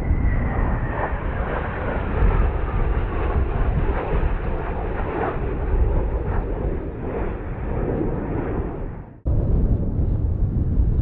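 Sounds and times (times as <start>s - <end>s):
jet engines flying past: 0.0s - 11.0s.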